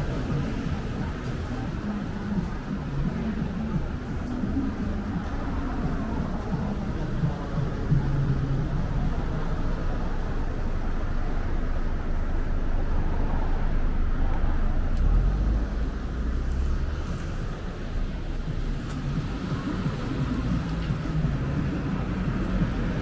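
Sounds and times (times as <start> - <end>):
deep low rumble: 0.0 - 23.0
traffic noise: 0.0 - 23.0.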